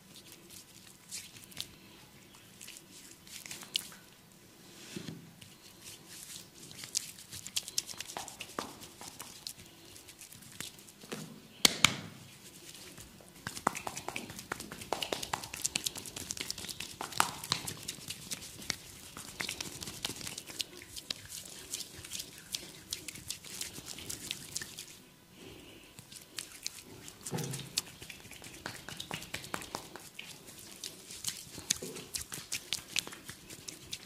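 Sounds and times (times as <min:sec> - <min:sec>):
hands rubbing and tapping skin: 0:00.5 - 0:04.0, 0:05.4 - 0:25.0, 0:26.0 - 0:34.0.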